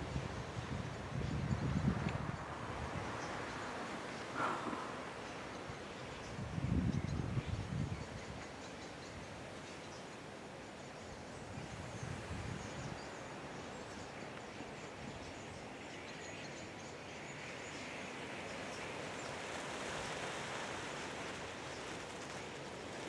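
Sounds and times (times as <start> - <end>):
steady outdoor hiss: 0.0 - 23.0
many faint high bird chirps: 0.1 - 20.6.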